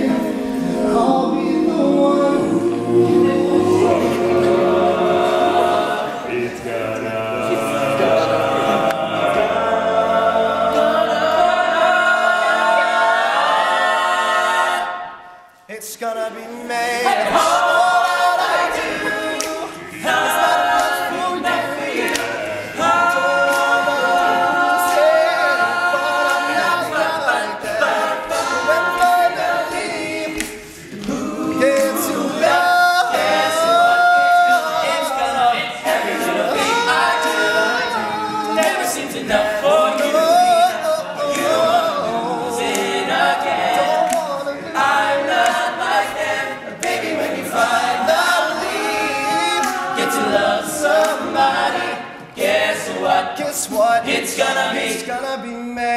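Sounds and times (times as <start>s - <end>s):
male a cappella group singing: 0.0s - 55.9s.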